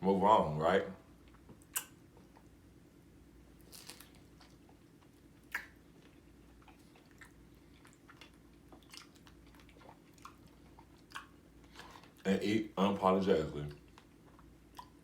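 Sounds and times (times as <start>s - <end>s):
faint chewing and mouth sounds: 1.1s - 2.7s, 3.4s - 12.6s, 13.4s - 15.0s.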